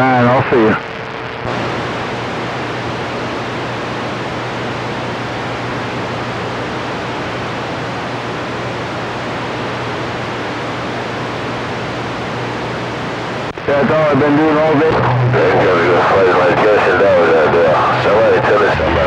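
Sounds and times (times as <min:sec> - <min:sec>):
radio static hiss: 0:00.0 - 0:19.0
low hum: 0:00.9 - 0:19.0.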